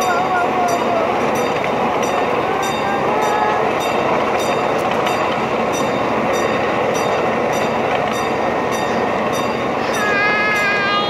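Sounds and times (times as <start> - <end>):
rail joints clicking: 0.0 - 11.0
train wheels rumbling on rail: 0.0 - 11.0.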